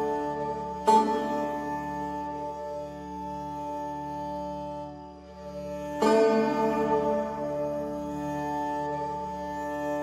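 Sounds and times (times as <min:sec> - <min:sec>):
instrumental music with held chord: 0:00.0 - 0:10.0.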